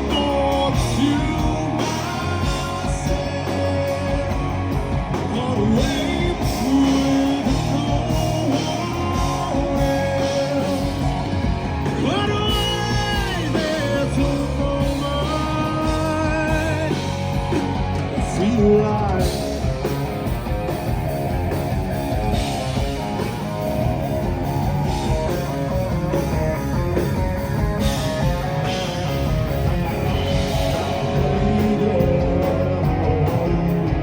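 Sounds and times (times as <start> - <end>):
guitar melody with vibrato: 0.0 - 34.0
live rock band playing: 0.0 - 34.0.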